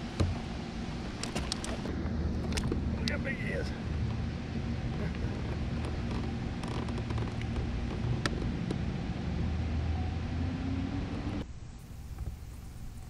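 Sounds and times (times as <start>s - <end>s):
faint hum: 0.0s - 13.0s
steady low rumble: 0.0s - 13.0s.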